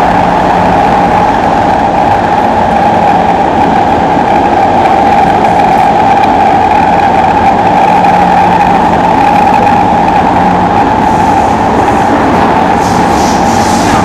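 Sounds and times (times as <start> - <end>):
mid-pitched drone: 0.0 - 14.0
train wheels roaring on rail: 0.0 - 14.0.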